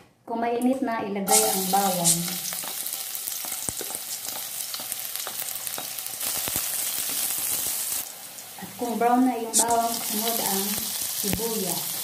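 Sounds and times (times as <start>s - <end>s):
garlic sizzling in hot oil: 1.3s - 12.0s.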